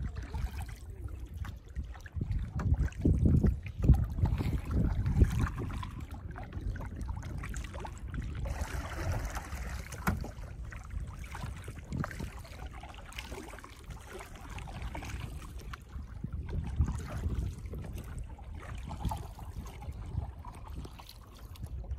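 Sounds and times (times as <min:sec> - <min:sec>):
water lapping against hull: 0:00.0 - 0:21.9
wind rumble on microphone: 0:00.0 - 0:21.9.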